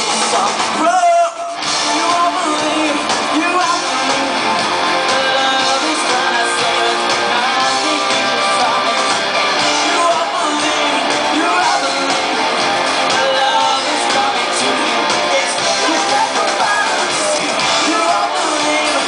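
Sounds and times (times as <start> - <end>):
bass guitar: 0.0 - 19.0
drums: 0.0 - 19.0
electric guitar: 0.0 - 19.0
person singing into microphone: 0.0 - 19.0.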